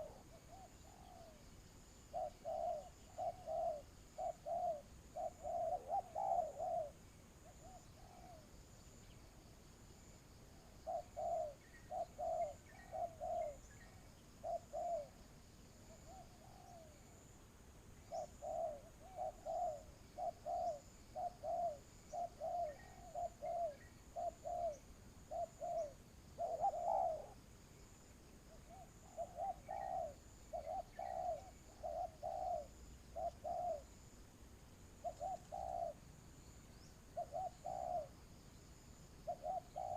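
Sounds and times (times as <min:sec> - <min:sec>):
dove cooing: 0:00.0 - 0:09.1, 0:10.6 - 0:15.2, 0:15.8 - 0:17.2, 0:18.0 - 0:27.4, 0:28.5 - 0:34.0, 0:35.0 - 0:36.0, 0:36.8 - 0:38.2, 0:39.2 - 0:39.9.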